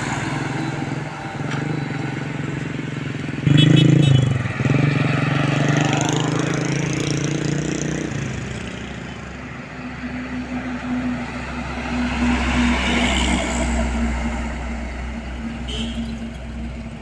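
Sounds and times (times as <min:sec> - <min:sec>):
engine humming: 0:00.0 - 0:17.0
heavy truck engine passing: 0:00.0 - 0:17.0.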